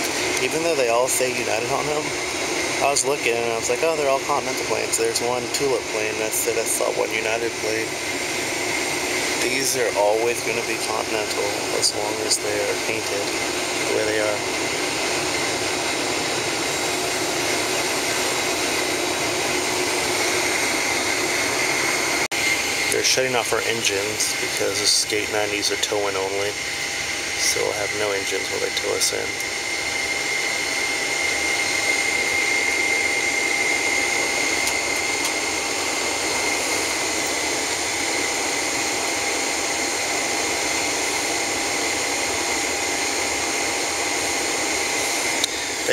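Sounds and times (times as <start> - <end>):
faint steady whine: 0.0 - 45.9
jet cabin engine rush: 0.0 - 45.9.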